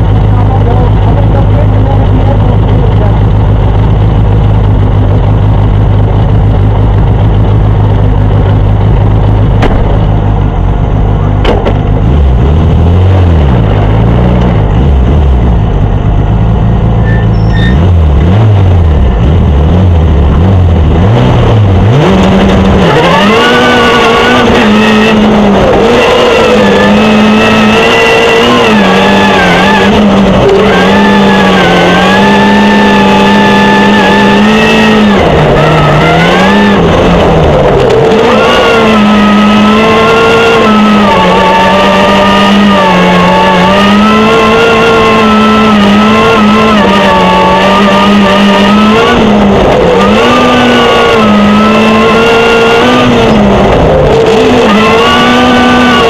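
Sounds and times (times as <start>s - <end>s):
loud car engine revving: 0.0s - 56.0s.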